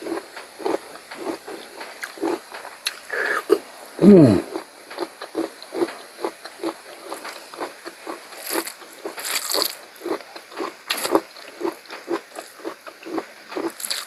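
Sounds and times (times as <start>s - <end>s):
crunchy bites: 0.0s - 14.0s
wet mouth chewing: 0.0s - 14.0s.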